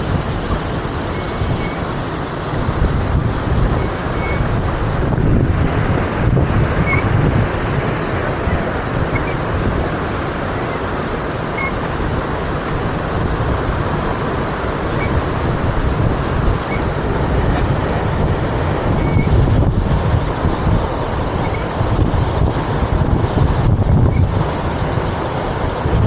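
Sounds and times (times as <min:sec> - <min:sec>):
waterfall roaring: 0:00.0 - 0:26.0
wind buffeting microphone: 0:00.0 - 0:26.0.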